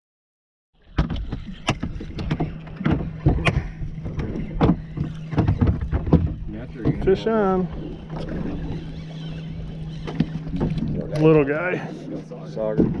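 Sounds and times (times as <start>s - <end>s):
boat motor humming: 0.8s - 13.0s
water slapping against hull: 0.8s - 13.0s.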